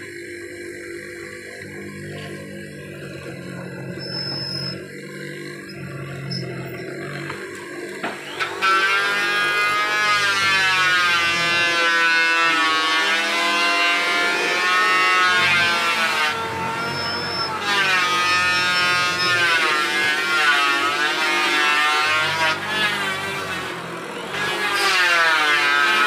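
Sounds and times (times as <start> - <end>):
mortising machine cutting wood: 0.0 - 26.0.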